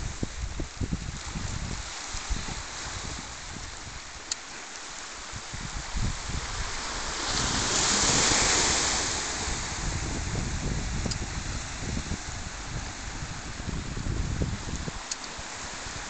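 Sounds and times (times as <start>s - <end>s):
wind buffeting microphone: 0.0s - 4.3s, 5.3s - 16.0s
waves on pebble beach: 0.0s - 16.0s.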